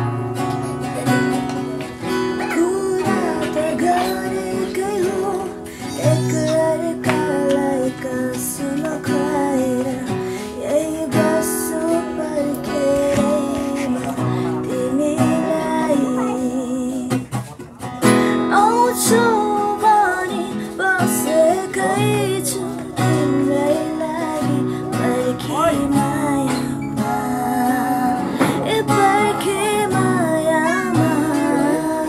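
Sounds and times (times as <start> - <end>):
acoustic guitar strumming: 0.0 - 32.0
person singing: 0.0 - 32.0.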